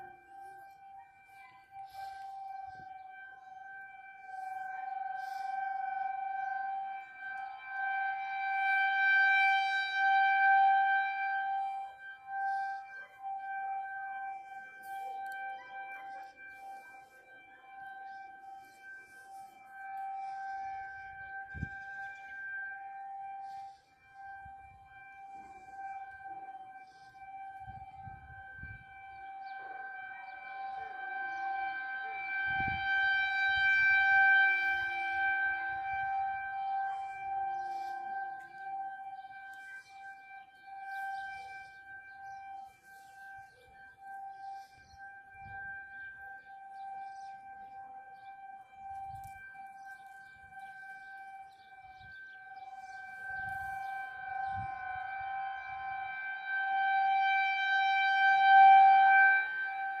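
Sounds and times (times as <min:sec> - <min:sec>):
tornado warning siren: 0:00.0 - 1:00.0.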